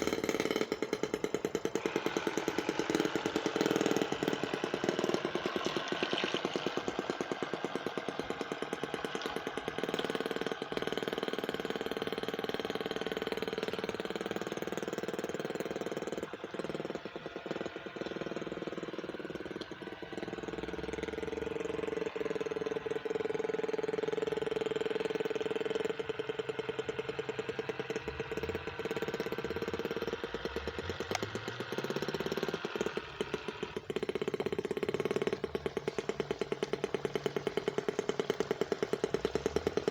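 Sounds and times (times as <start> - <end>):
model boat engine running: 0.0 - 39.9.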